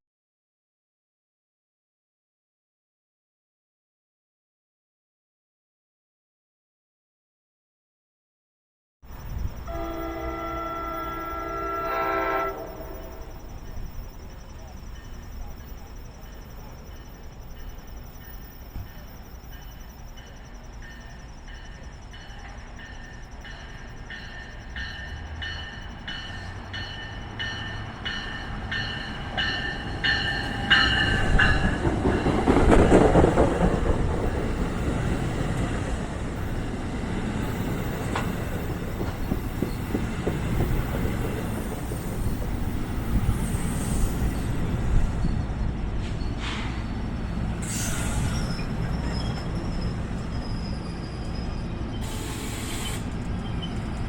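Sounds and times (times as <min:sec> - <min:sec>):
train engine and wheel noise: 0:09.0 - 0:54.0
train bell ringing: 0:09.1 - 0:52.7
train wheels rumbling: 0:09.1 - 0:54.0.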